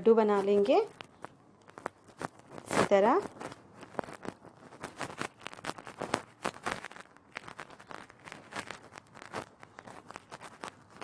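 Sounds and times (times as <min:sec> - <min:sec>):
soft crunching and crackling: 0:00.0 - 0:11.0.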